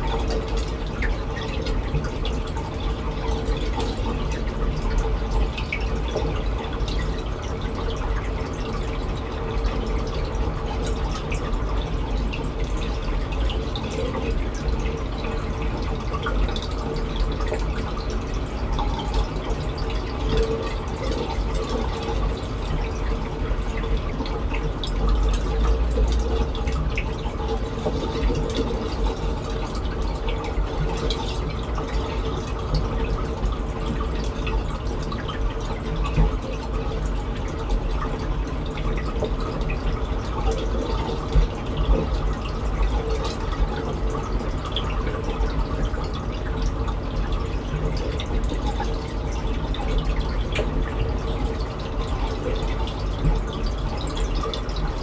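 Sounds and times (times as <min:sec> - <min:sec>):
aquarium water trickling: 0:00.0 - 0:55.0.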